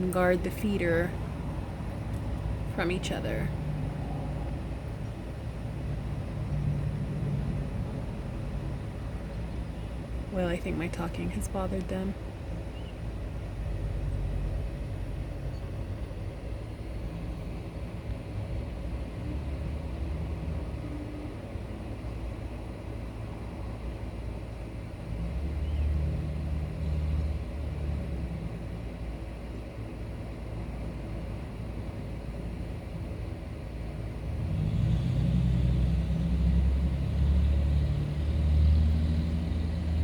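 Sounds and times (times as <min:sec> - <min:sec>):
low outdoor rumble: 0:00.0 - 0:40.0.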